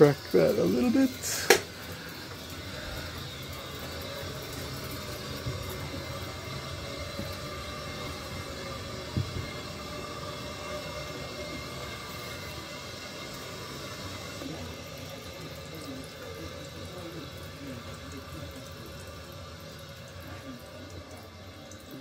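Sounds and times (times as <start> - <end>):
water rushing into pipes: 0.0 - 22.0.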